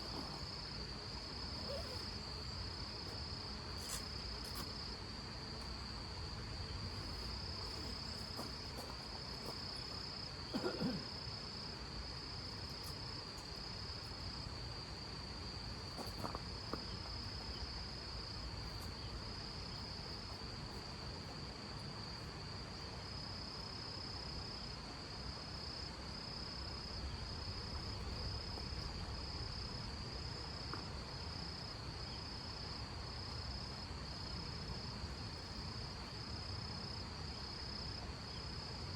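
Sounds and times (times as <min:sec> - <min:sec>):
cricket chirping trill: 0:00.0 - 0:38.9.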